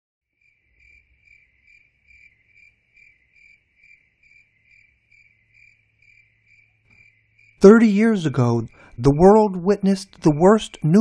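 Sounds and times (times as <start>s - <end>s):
crickets chirping: 0.4s - 11.0s.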